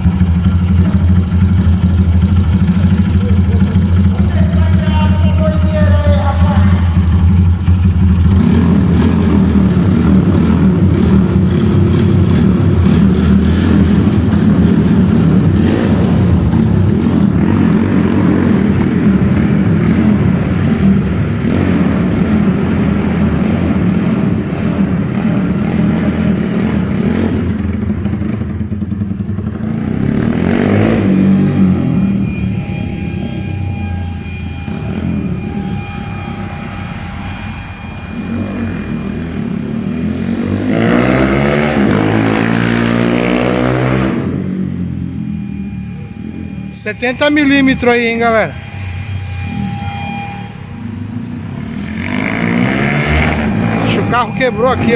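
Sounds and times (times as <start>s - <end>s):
motorcycle engine revving: 0.0s - 54.9s
passing vehicle: 0.0s - 54.9s.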